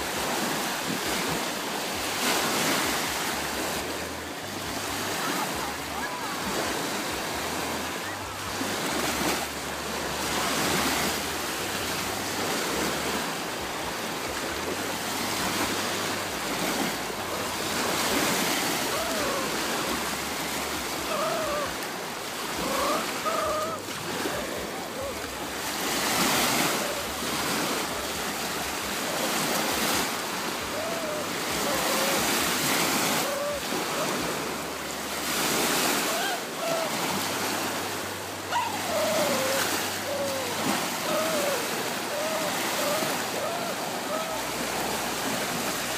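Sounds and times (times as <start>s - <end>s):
small waves lapping: 0.0s - 45.9s.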